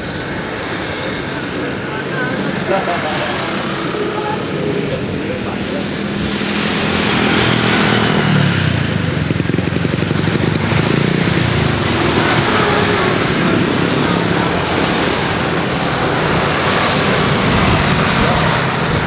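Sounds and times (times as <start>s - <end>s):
engine rushing hiss and hum: 0.0s - 19.0s.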